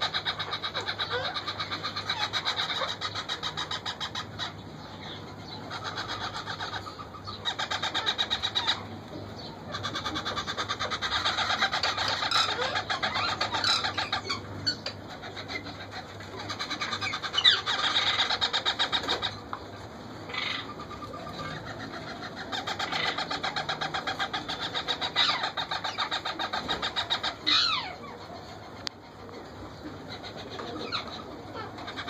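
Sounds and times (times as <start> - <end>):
parakeet chicks begging calls: 0.0 - 32.0.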